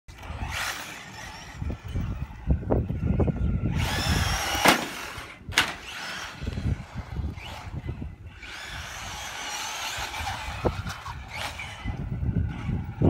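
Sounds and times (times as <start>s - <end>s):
electric motor whining: 0.1s - 13.0s.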